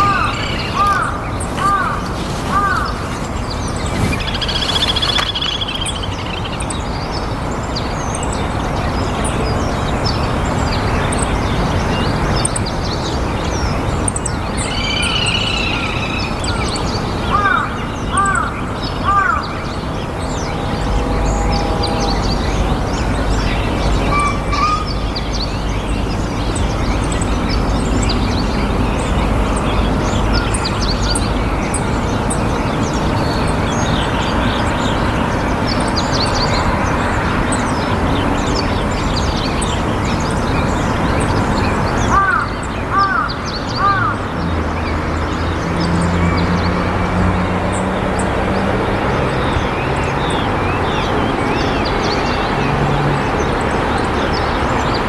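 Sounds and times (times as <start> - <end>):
loud arching bird calls: 0.0 - 55.0
small birds chirping: 0.0 - 55.0.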